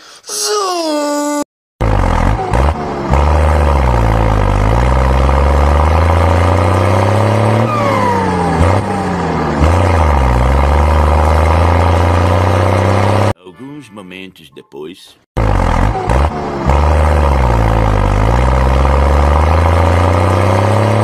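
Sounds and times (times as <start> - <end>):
tractor engine under load: 1.8 - 13.3, 15.4 - 21.0.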